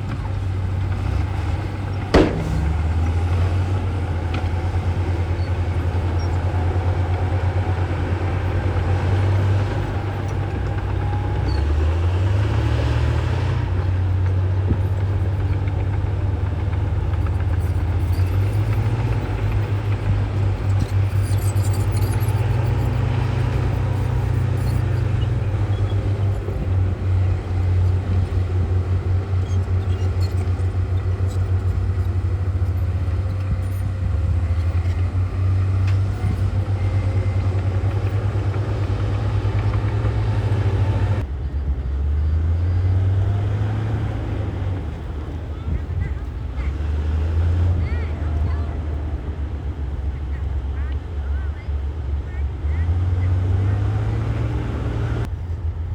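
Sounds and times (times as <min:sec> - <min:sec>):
heavy diesel engine throbbing: 0:00.0 - 0:55.9.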